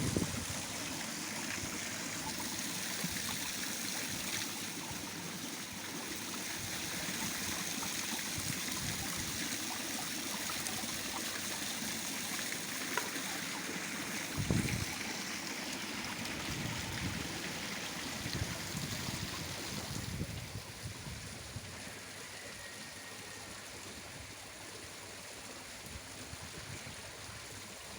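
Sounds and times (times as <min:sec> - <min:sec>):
waterfall running over stones: 0:00.0 - 0:27.9.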